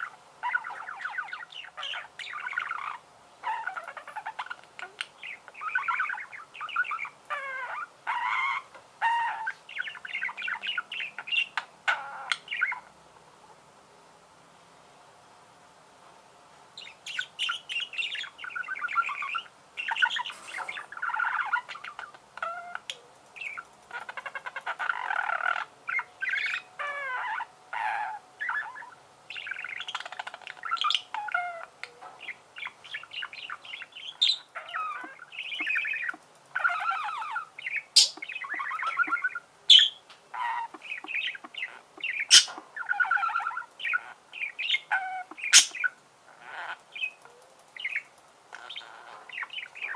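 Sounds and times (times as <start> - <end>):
budgerigars warbling and chattering: 0.0 - 12.9, 16.8 - 49.9.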